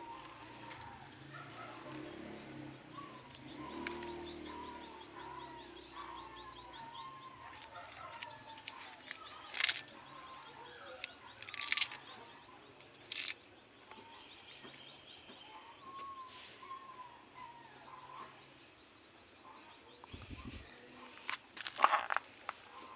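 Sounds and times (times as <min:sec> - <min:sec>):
birds chirping and warbling: 0:00.0 - 0:22.9.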